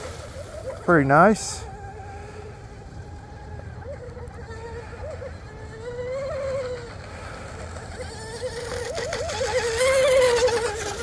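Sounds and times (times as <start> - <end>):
electric boat motor whining: 0.0 - 11.0.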